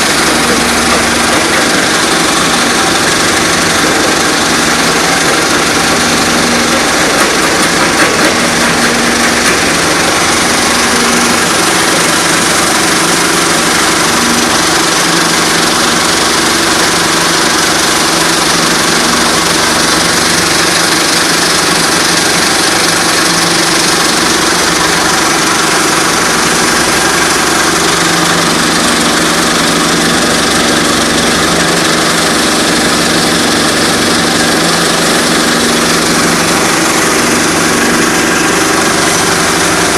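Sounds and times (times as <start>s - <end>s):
stone crusher machine running: 0.0s - 39.9s.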